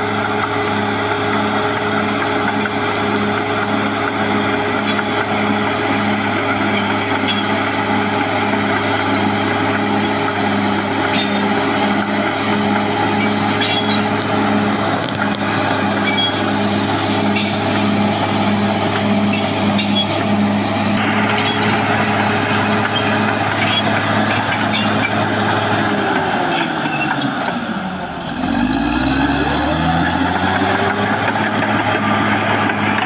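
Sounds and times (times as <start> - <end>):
bulldozer diesel engine under load: 0.0 - 33.0.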